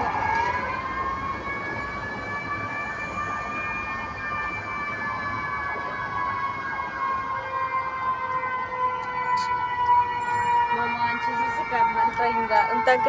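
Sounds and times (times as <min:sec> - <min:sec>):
emergency siren wavering: 0:00.0 - 0:13.0.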